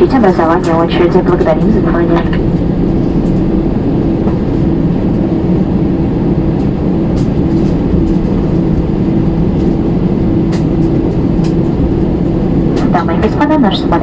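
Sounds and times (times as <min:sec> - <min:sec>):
aircraft cabin rumble: 0:00.0 - 0:14.0
engines humming: 0:00.0 - 0:14.0.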